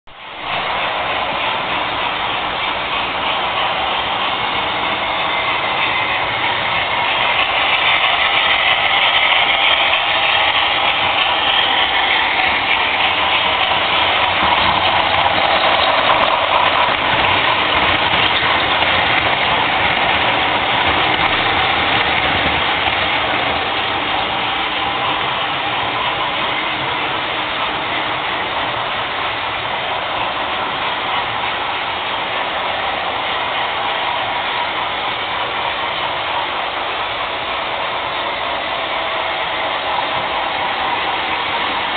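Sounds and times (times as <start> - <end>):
model trains running on track: 0.0 - 41.9.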